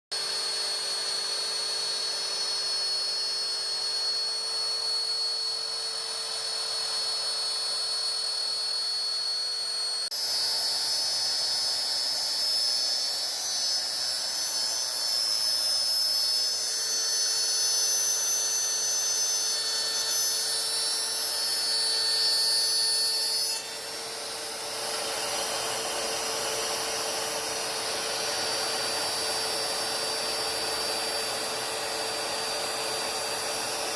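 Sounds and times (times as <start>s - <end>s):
router spindle high whine: 0.1s - 33.9s.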